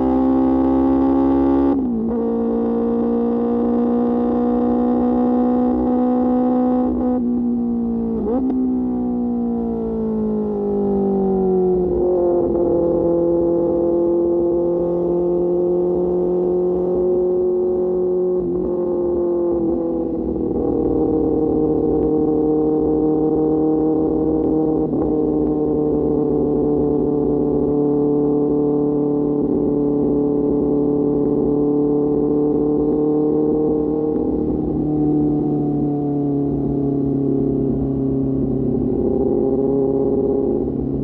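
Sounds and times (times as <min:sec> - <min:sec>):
motorcycle engine at steady revs: 0:00.0 - 0:41.0.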